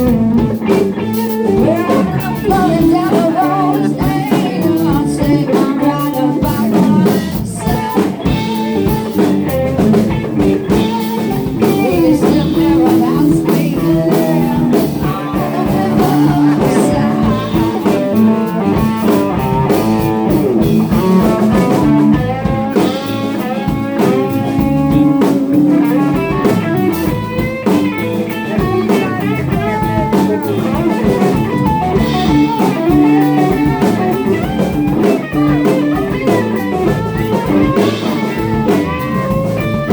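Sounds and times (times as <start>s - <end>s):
live blues-rock band: 0.0s - 39.9s.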